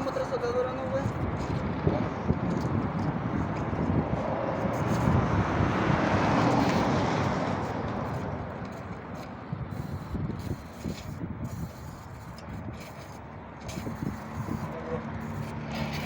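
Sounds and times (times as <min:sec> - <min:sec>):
road vehicle passing by: 0:01.6 - 0:12.2, 0:13.0 - 0:16.0.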